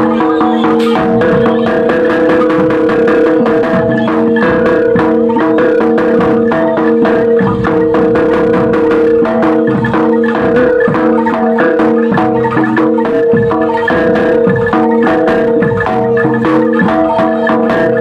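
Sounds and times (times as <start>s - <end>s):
gamelan metallophones: 0.0s - 18.0s.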